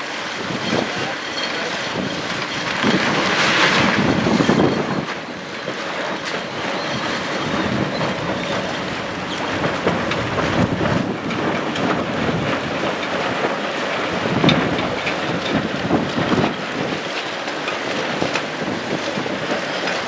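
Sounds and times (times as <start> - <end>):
water rushing along hull: 0.0 - 20.0
wind buffeting microphone: 1.9 - 20.0.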